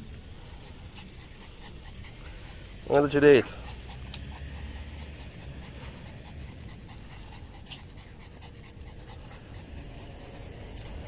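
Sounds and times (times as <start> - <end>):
small dog panting: 0.1 - 11.0.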